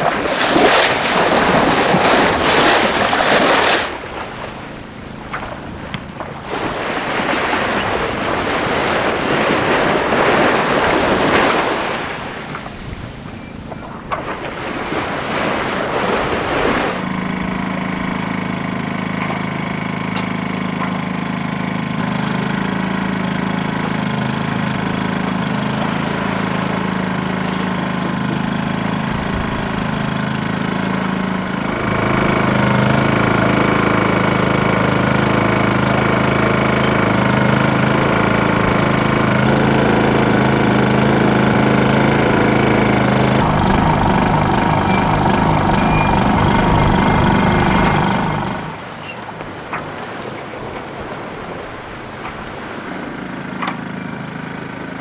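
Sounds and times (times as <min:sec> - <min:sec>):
generator whirring drone: 0:00.0 - 0:55.0.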